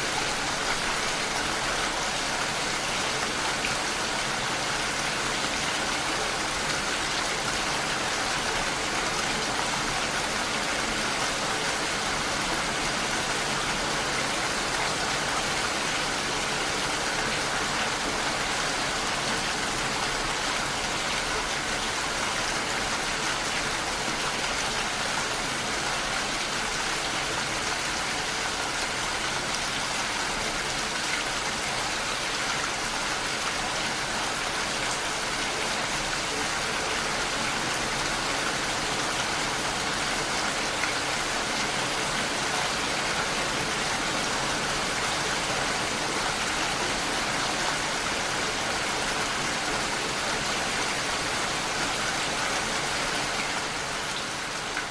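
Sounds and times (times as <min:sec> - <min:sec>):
heavy rainfall: 0:00.0 - 0:54.9.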